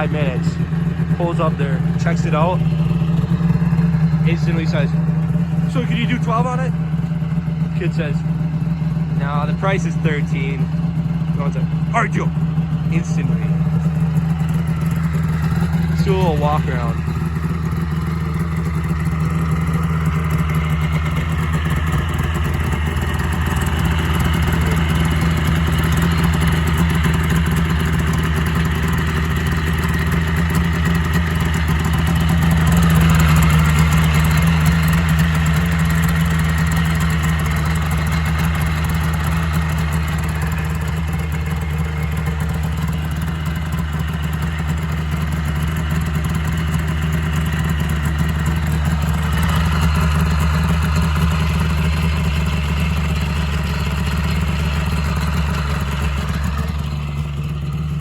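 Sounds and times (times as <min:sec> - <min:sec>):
snowmobile engine idling: 0:00.0 - 0:58.0.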